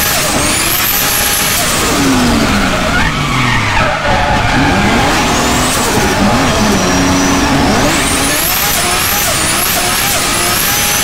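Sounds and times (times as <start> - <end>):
car engine revving: 0.0 - 11.0
tyres skidding: 0.0 - 11.0.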